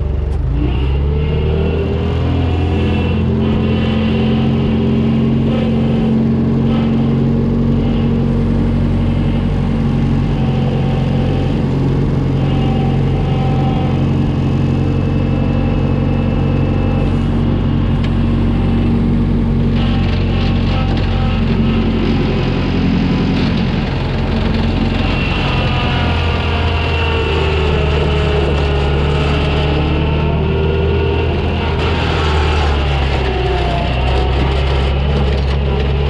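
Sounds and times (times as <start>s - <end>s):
skid steer engine running: 0.0s - 36.0s
faint higher whines: 0.8s - 36.0s.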